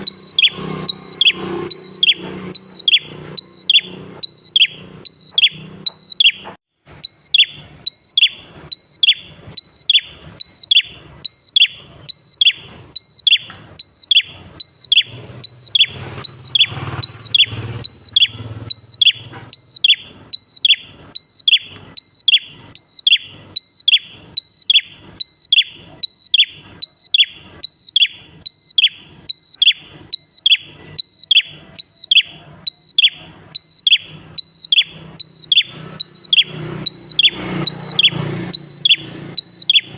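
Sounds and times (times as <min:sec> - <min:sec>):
bird singing repeated calls: 0:00.0 - 0:39.9.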